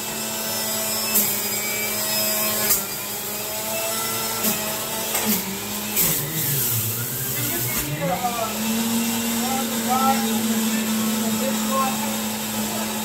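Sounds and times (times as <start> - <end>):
juicer grinding fruit: 0.0 - 13.0
juicer motor hum: 0.0 - 13.0.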